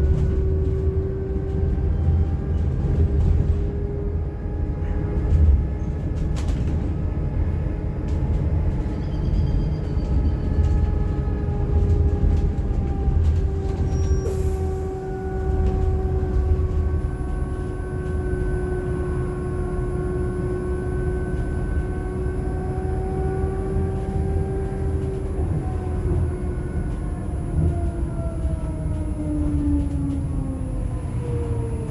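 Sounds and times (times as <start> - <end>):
road rumble: 0.0 - 31.9.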